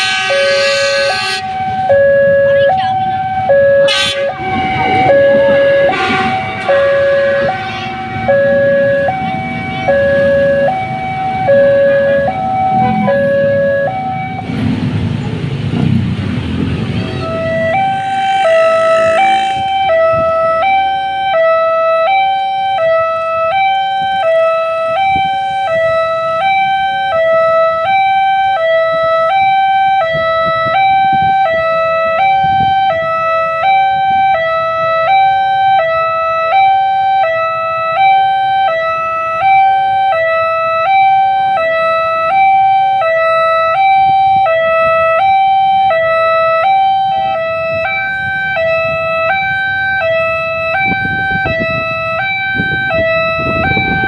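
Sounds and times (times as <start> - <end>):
faint road traffic: 0.0 - 54.0
level crossing warning siren: 0.0 - 54.0.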